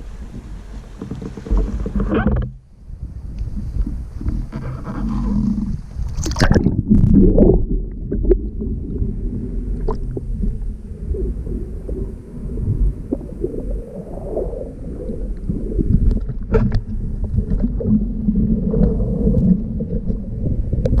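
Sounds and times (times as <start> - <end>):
water noise: 0.0 - 21.0
wind rumbling on microphone: 0.0 - 21.0.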